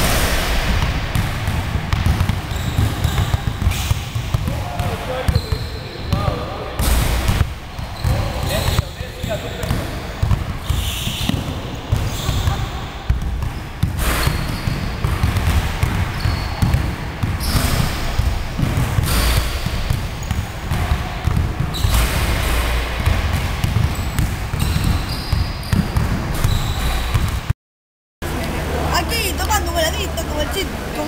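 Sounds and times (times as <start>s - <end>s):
basketballs bouncing on wooden floor: 0.0s - 27.5s.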